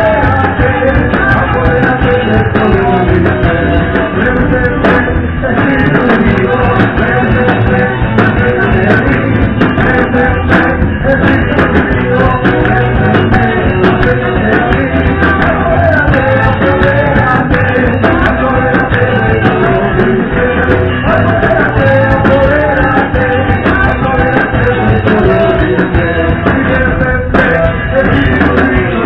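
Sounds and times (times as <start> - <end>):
amplified band playing worship music: 0.0 - 29.0
man singing into a microphone: 0.0 - 29.0.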